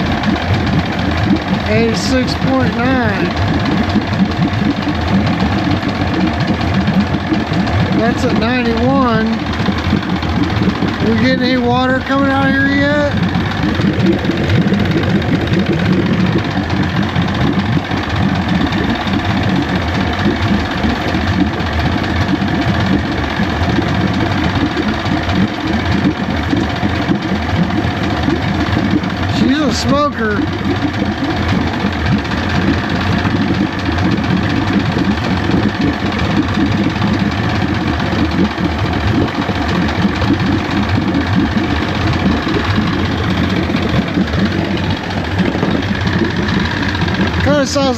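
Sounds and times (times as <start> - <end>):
outboard motor idling: 0.0 - 47.9.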